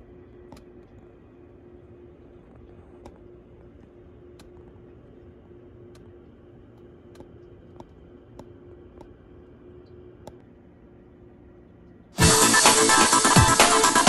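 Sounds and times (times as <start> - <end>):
low steady hum: 0.0 - 12.4.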